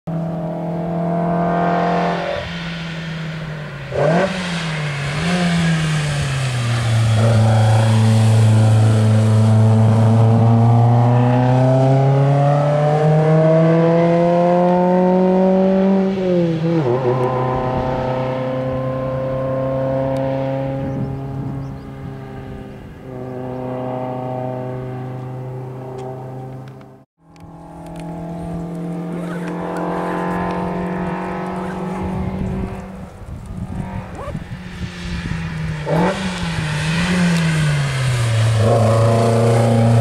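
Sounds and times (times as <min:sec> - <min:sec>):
car engine revving hard: 0:00.2 - 0:26.4, 0:27.6 - 0:32.9, 0:33.7 - 0:40.0.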